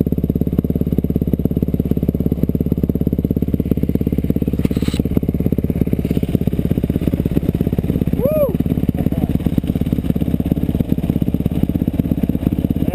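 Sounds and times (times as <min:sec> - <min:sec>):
motorcycle engine idling: 0:00.0 - 0:12.9.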